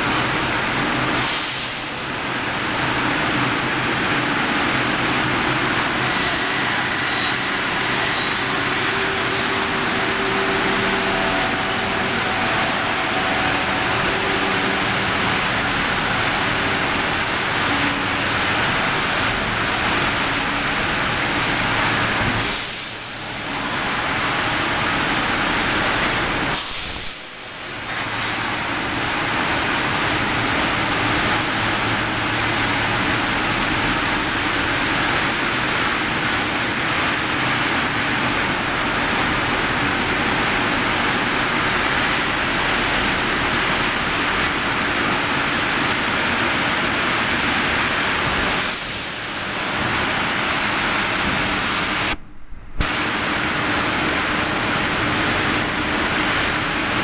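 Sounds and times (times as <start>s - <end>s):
rolling mill machinery noise: 0.0s - 57.0s.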